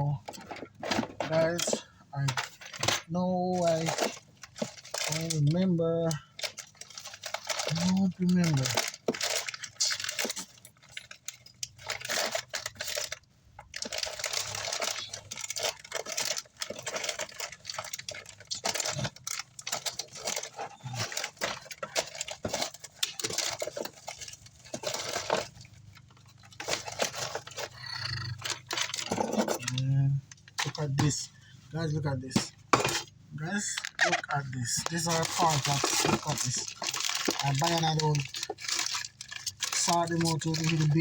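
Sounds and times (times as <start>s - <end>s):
rustling through bags: 0.0s - 41.0s
small parts rattling: 0.1s - 31.4s, 32.0s - 41.0s.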